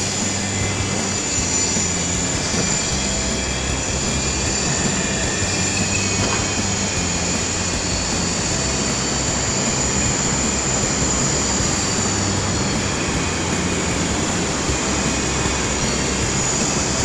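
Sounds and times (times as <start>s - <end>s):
electric motors whining: 0.0s - 17.0s
rotors rushing: 0.0s - 17.0s.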